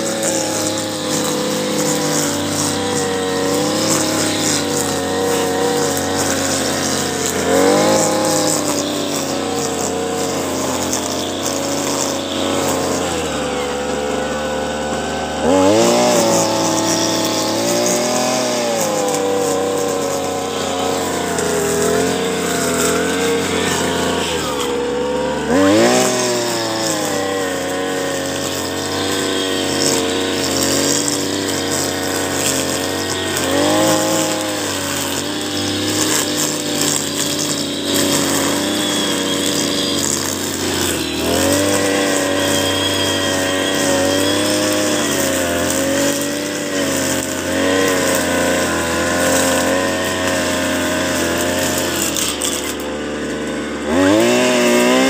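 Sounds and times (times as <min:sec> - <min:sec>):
brush cutter engine revving: 0:00.0 - 0:55.0.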